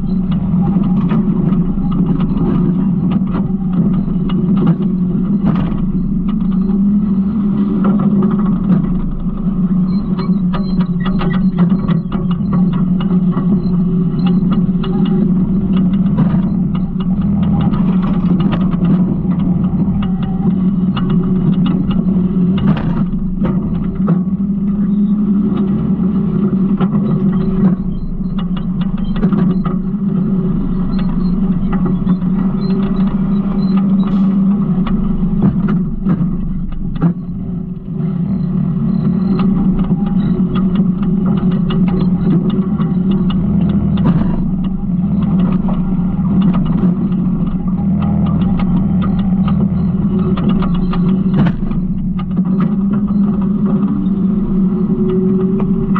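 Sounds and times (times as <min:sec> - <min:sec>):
garbage truck engine running: 0:00.0 - 0:55.9
small rattles and knocks: 0:00.0 - 0:55.9.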